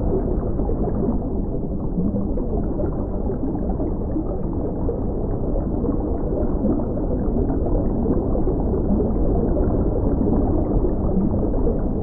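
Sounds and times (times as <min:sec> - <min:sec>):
muffled bubbling pond water: 0:00.0 - 0:12.0.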